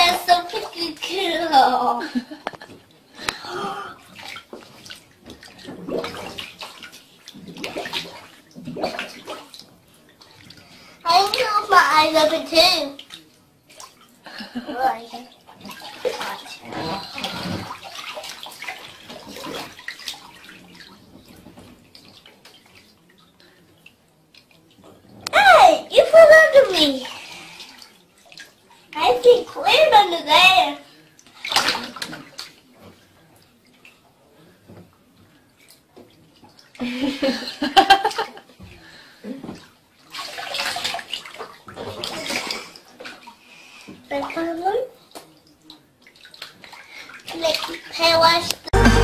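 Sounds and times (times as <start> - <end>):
water splashing and sloshing: 0.0 - 49.0.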